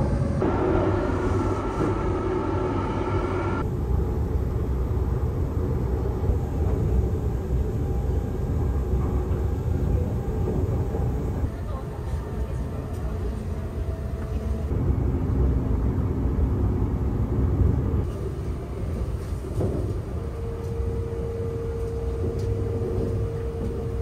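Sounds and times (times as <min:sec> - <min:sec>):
train rumble inside carriage: 0:00.0 - 0:24.0.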